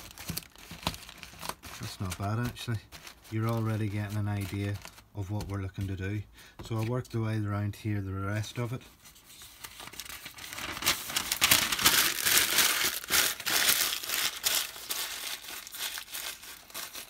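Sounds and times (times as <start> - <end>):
newspaper being scrunched up: 0.0 - 6.0, 9.3 - 17.0.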